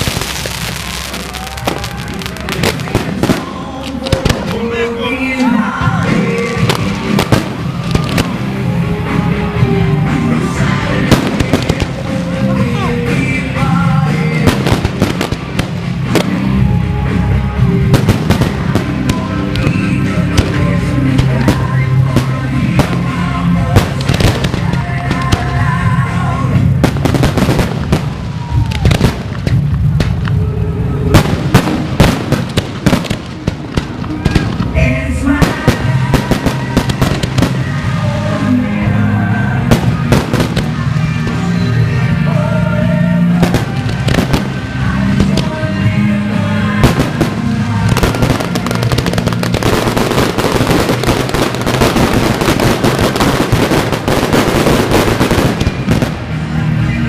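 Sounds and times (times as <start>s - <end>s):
fireworks bangs and pops: 0.0s - 5.0s, 5.8s - 9.2s, 10.1s - 16.7s, 17.8s - 30.4s, 31.1s - 38.1s, 39.6s - 41.9s, 43.3s - 45.9s, 46.6s - 56.4s
loud music: 0.0s - 57.0s.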